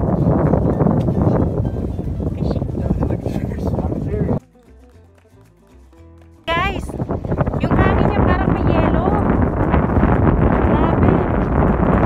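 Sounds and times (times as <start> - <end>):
wind buffeting microphone: 0.0 - 4.4, 6.5 - 12.0
background music: 1.6 - 12.0.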